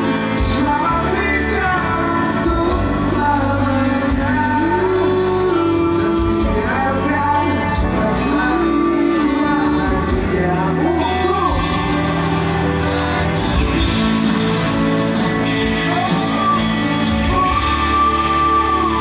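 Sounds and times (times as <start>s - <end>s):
live pop-rock band: 0.0s - 19.0s
person singing: 0.0s - 19.0s.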